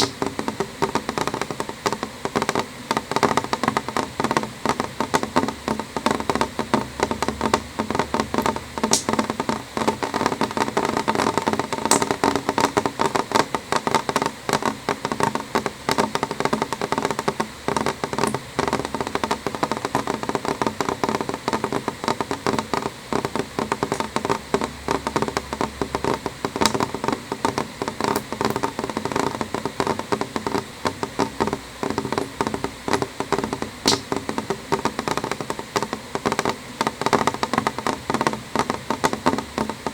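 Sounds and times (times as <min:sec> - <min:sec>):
rain tapping on window glass: 0:00.0 - 0:39.9.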